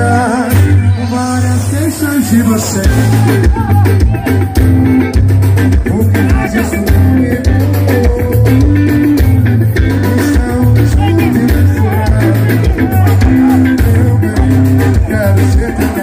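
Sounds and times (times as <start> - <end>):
drums: 0.0 - 16.0
guitar: 0.0 - 16.0
person singing: 0.0 - 16.0
pulsing bass line: 0.0 - 16.0.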